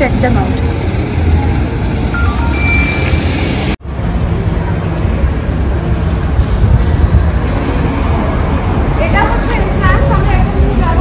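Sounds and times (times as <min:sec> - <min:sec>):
low rumble of street noise: 0:00.0 - 0:11.0.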